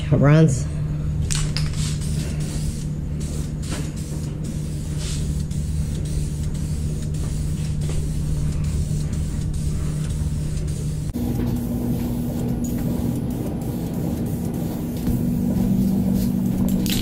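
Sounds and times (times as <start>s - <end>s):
low machine hum: 0.0s - 17.0s
paint spraying hisses: 1.3s - 16.7s.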